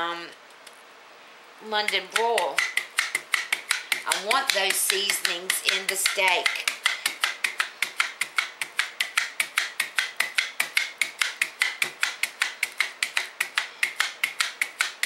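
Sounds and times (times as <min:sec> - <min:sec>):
meat tenderizer clicking: 0:01.9 - 0:15.0.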